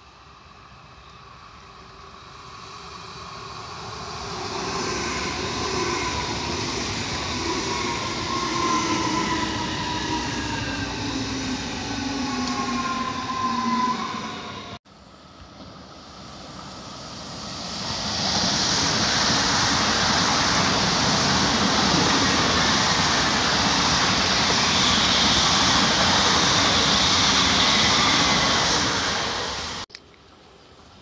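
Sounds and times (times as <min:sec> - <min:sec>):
high-speed train passing: 0:00.0 - 0:29.9.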